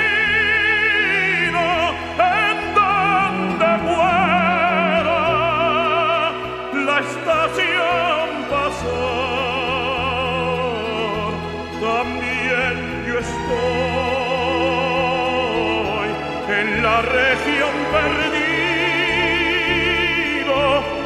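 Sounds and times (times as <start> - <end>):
operatic voice singing: 0.0 - 21.0
orchestral accompaniment: 0.0 - 21.0.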